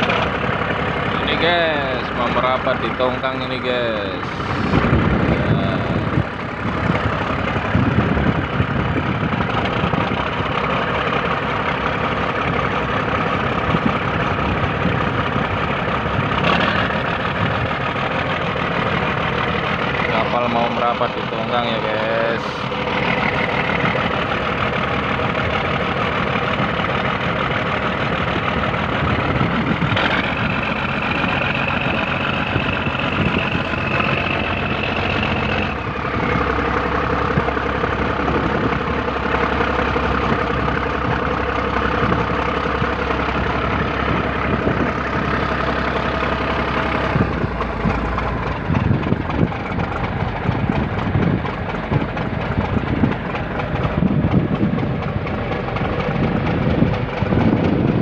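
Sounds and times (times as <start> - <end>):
boat diesel engine running: 0.0 - 58.0
higher engine whine: 0.0 - 58.0.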